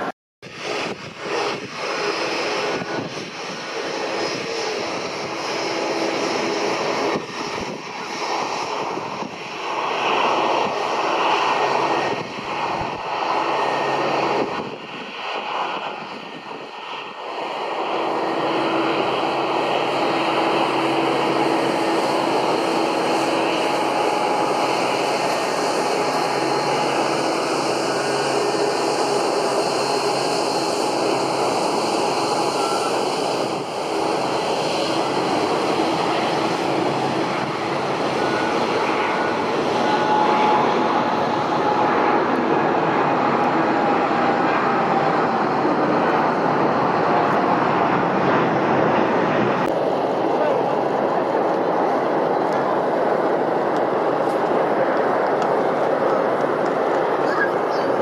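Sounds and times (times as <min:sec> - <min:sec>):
airliner engines roaring: 0:00.0 - 0:58.0.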